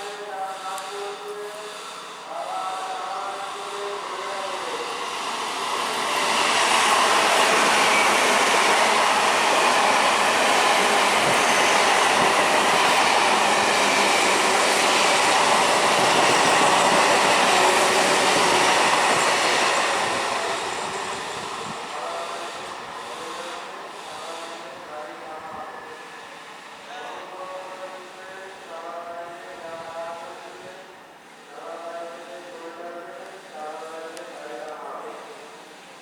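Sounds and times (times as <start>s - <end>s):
train wheel and rail noise: 0.0s - 36.0s.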